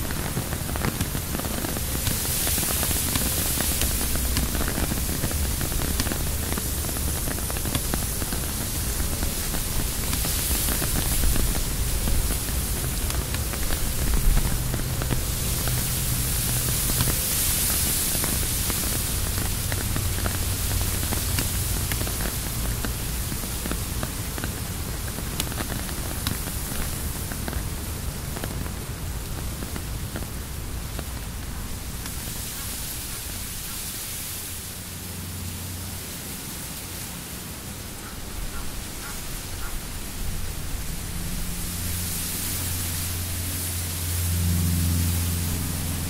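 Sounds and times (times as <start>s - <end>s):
rain on tent fabric: 0.0s - 46.0s
wind gusts: 0.0s - 46.0s.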